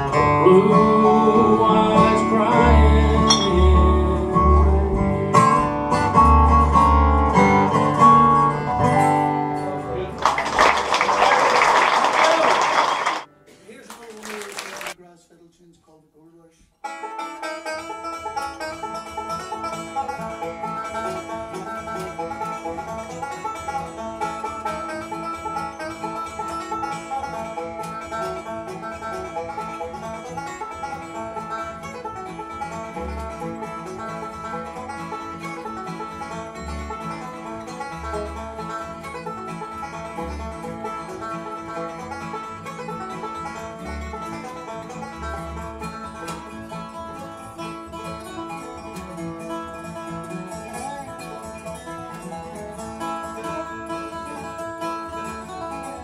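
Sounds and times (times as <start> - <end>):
strummed acoustic guitar: 0.0 - 10.9, 16.8 - 56.0
banjo picking fast runs: 0.0 - 13.3, 16.8 - 56.0.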